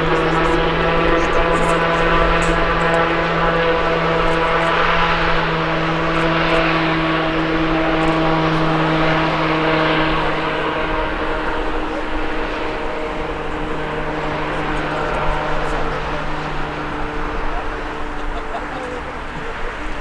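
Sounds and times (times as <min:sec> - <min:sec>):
aircraft engines running: 0:00.0 - 0:20.0.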